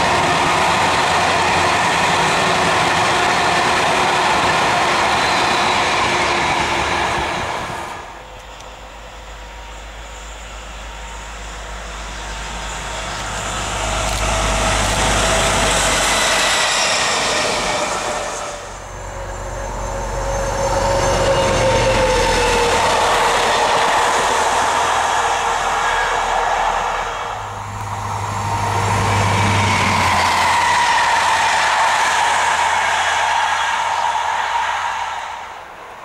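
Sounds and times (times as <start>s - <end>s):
trains passing: 0.0s - 36.0s.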